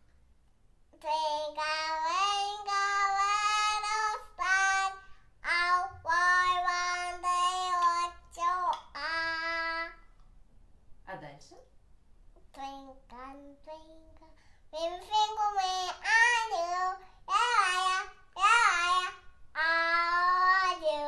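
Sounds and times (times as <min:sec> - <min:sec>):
girl singing unaccompanied: 0:00.9 - 0:10.2, 0:12.4 - 0:21.0.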